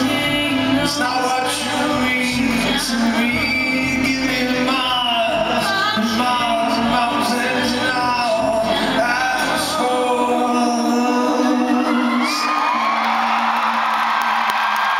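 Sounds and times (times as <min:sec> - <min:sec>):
person singing: 0:00.0 - 0:13.8
acoustic guitar: 0:00.0 - 0:14.9.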